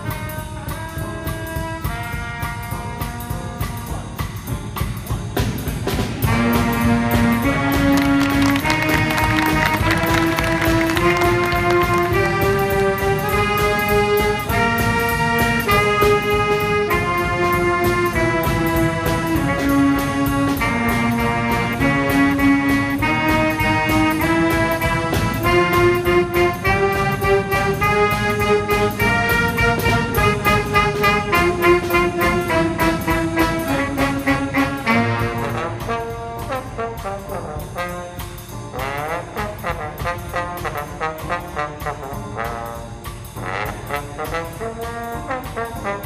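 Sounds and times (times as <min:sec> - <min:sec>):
brass band music: 0:00.0 - 0:46.0
percussion beat: 0:00.0 - 0:46.0.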